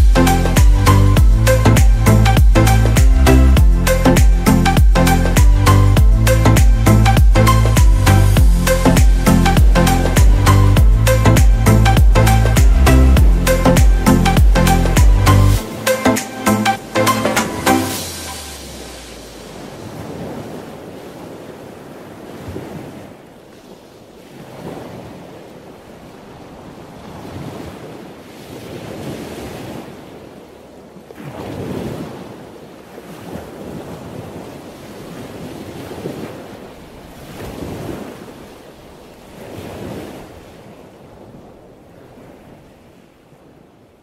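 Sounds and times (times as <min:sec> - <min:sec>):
ocean surf washing onto beach: 0:07.3 - 0:44.0.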